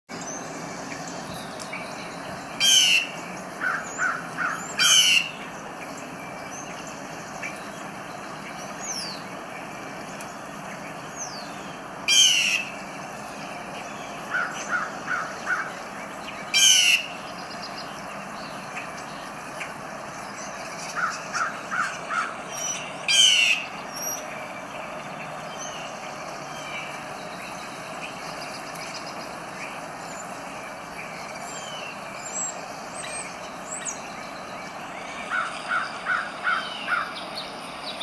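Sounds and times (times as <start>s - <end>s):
harsh bird calls: 0.1s - 38.0s
lower bird calls: 0.1s - 38.0s
steady background noise: 0.1s - 38.0s.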